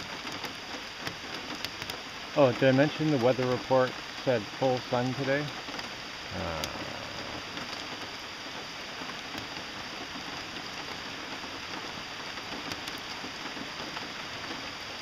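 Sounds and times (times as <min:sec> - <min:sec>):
rain falling on creek water: 0:00.0 - 0:15.0.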